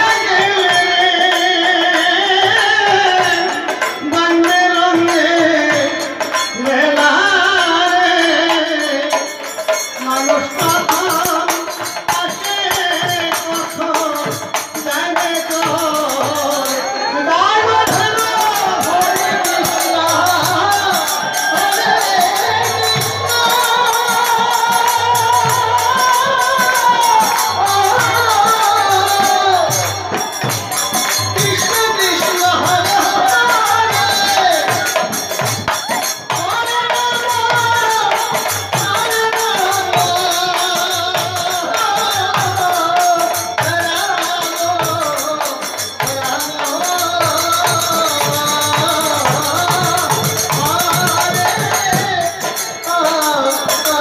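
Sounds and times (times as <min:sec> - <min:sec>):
group singing devotional song: 0:00.0 - 0:09.8, 0:10.5 - 0:54.0
hand drums beating: 0:00.0 - 0:54.0
hand cymbals jingling: 0:03.4 - 0:54.0.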